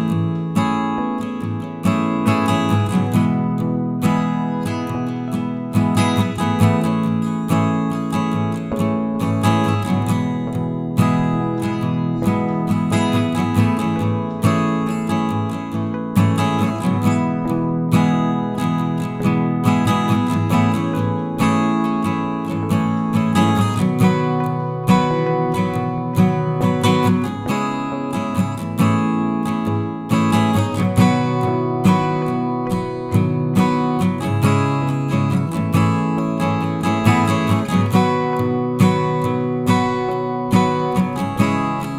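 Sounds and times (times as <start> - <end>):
acoustic guitar playing: 0.0 - 41.9.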